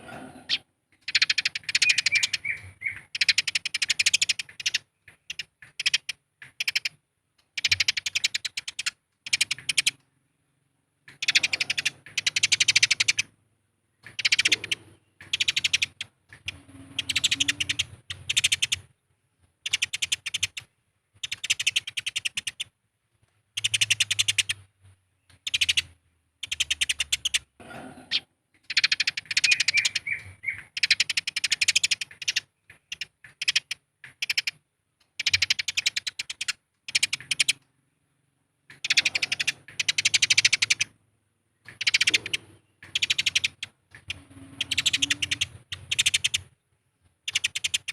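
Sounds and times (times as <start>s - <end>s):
sparrows chattering: 0.0s - 19.0s, 19.6s - 22.7s, 23.5s - 46.6s, 47.2s - 47.9s.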